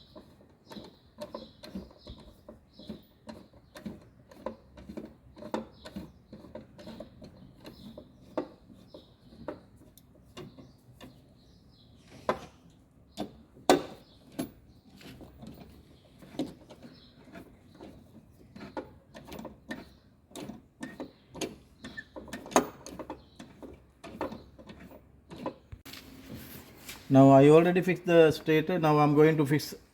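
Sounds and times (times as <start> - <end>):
hand tools clicking and knocking: 0.0 - 11.4, 12.1 - 25.9.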